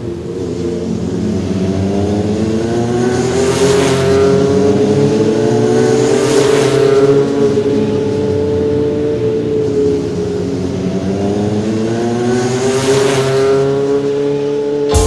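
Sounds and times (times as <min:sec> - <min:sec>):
synthesized race car engine revving: 0:00.1 - 0:14.2.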